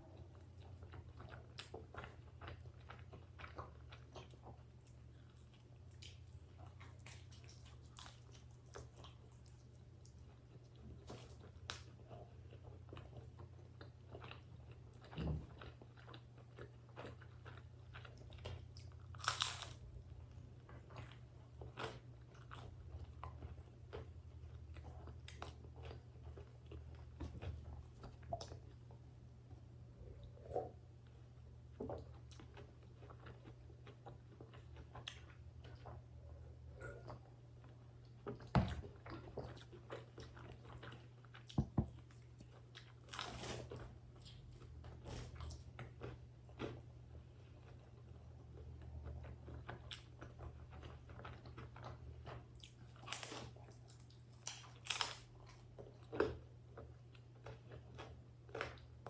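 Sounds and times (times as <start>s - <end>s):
chewing and biting pizza: 0.1s - 29.3s, 30.2s - 59.0s.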